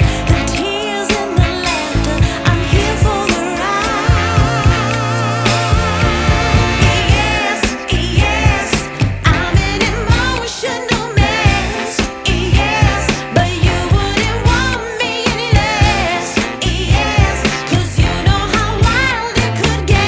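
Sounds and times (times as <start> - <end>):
steady beat and bass line: 0.0 - 0.7, 1.4 - 10.5, 11.2 - 14.9, 15.6 - 20.0
person singing with vibrato: 0.0 - 20.0.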